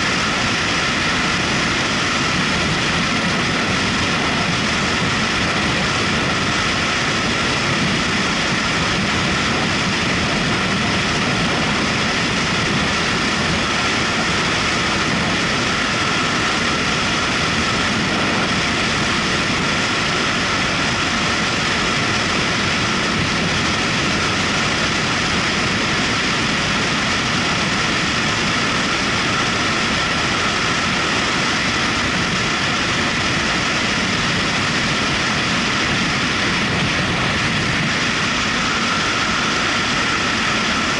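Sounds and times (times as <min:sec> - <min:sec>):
motorcycle engine running: 0:00.0 - 0:40.9
wind on microphone: 0:00.0 - 0:40.9.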